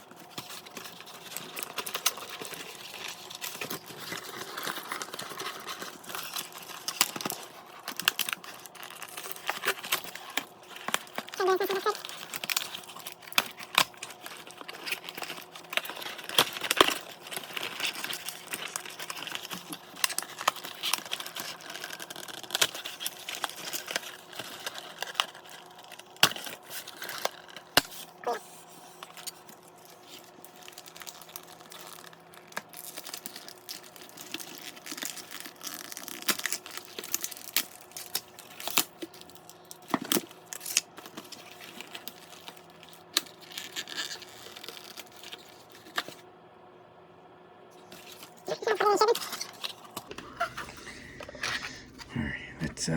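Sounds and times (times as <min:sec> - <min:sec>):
packaging crinkling and tearing: 0:00.0 - 0:46.3, 0:47.8 - 0:52.1
faint steady hum: 0:00.0 - 0:52.9.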